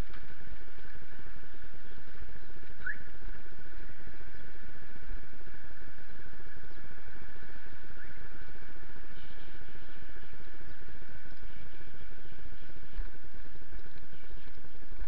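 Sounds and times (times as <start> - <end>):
outdoor low rumble: 0.0 - 15.0.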